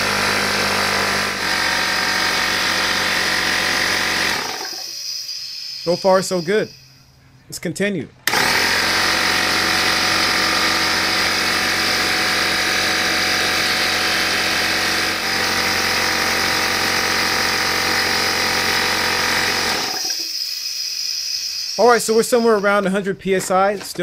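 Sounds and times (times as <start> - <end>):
air compressor running: 0.0 - 6.8, 8.3 - 22.9.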